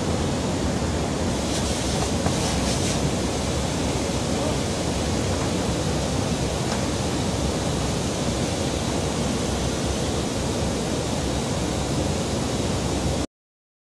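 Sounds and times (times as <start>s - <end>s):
aircraft airflow rushing: 0.0s - 13.3s.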